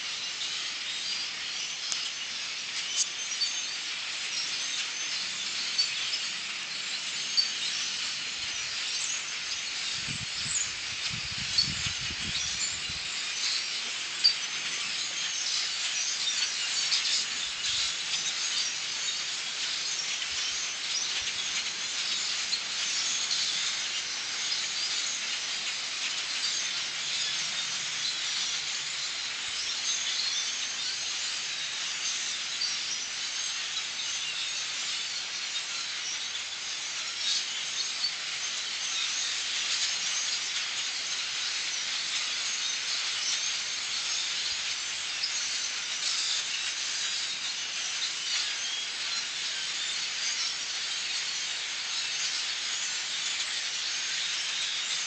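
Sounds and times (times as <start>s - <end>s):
flock of birds calling: 0.0s - 55.0s.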